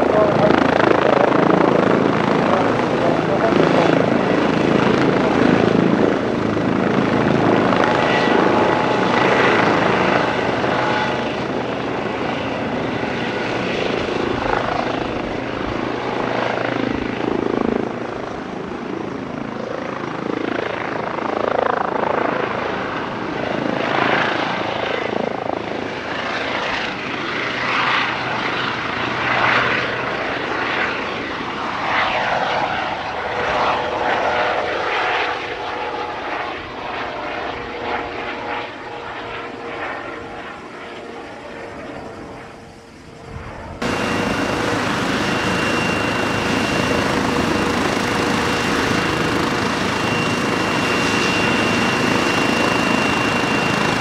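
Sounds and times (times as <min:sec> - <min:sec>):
helicopter turbine whine and rotors: 0:00.0 - 0:54.0.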